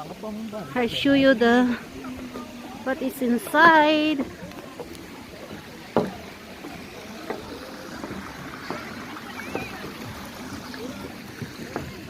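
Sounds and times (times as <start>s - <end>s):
background hubbub: 0.0s - 12.0s
faint voices: 0.0s - 12.0s.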